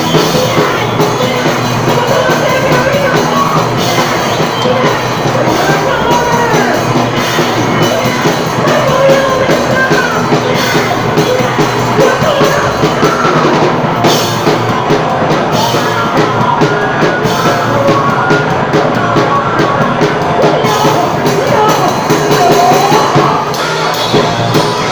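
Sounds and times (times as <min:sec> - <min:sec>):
drum kit beat: 0:00.0 - 0:24.9
live rock band playing: 0:00.0 - 0:24.9
person singing: 0:00.0 - 0:24.9.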